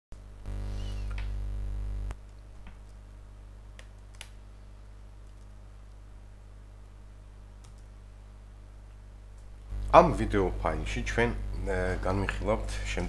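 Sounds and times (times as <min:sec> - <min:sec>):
electrical hum: 0:00.2 - 0:13.0.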